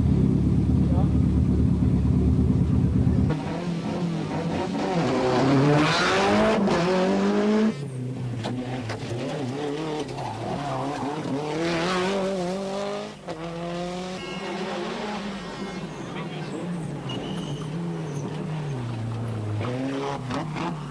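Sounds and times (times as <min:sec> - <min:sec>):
rally car engine accelerating: 0:00.0 - 0:20.9.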